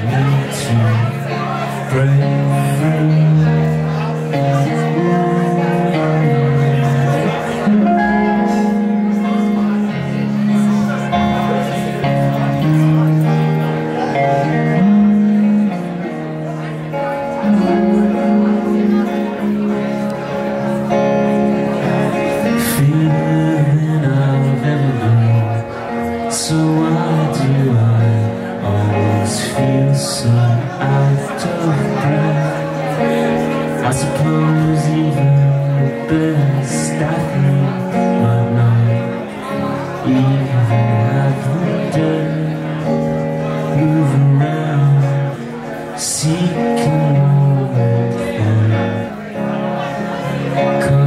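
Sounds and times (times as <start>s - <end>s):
man singing: 0.0s - 16.0s, 22.3s - 51.0s
band playing live: 0.0s - 51.0s.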